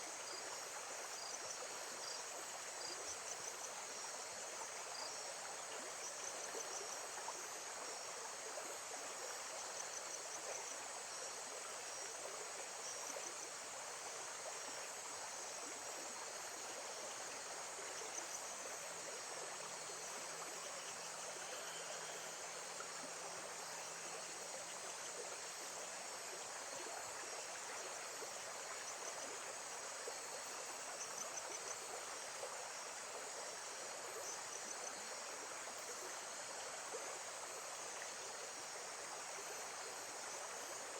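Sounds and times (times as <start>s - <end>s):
insects chirping: 0.1s - 8.1s, 9.4s - 40.9s.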